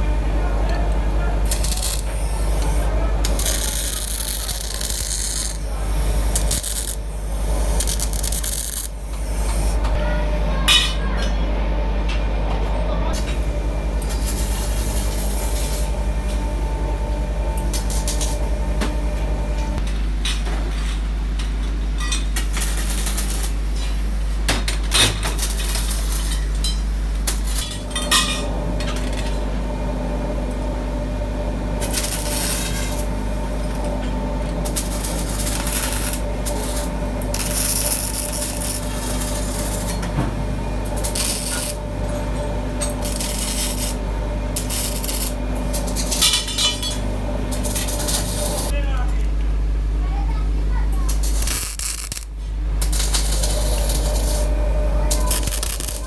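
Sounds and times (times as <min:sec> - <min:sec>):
machinery humming: 0:00.0 - 0:56.0.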